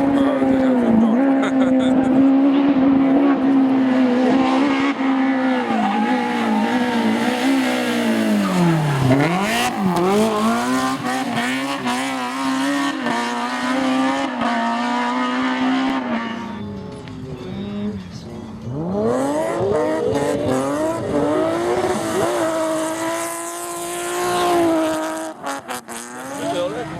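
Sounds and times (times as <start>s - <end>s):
rally car engine revving: 0.0s - 26.9s.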